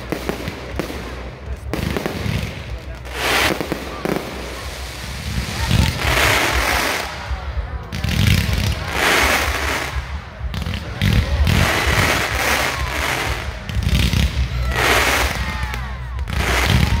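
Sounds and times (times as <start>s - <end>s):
fireworks hissing: 0.0s - 17.0s.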